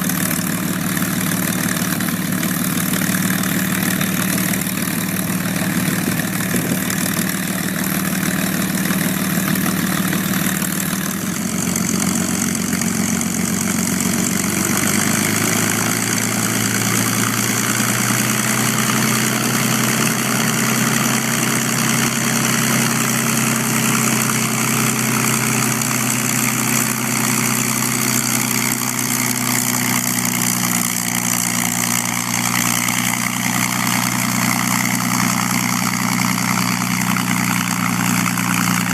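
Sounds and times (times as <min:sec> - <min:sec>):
aircraft piston engine running: 0:00.0 - 0:38.9.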